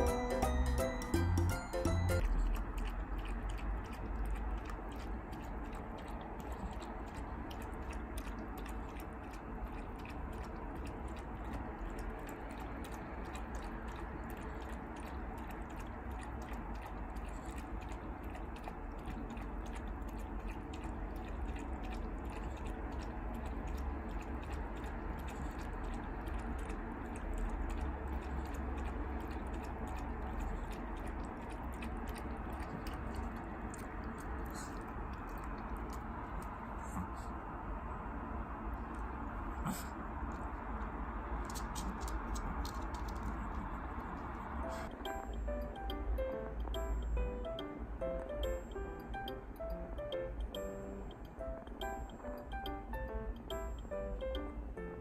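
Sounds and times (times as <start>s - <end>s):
puppy chewing on a toy: 0.0s - 37.6s, 38.6s - 54.5s.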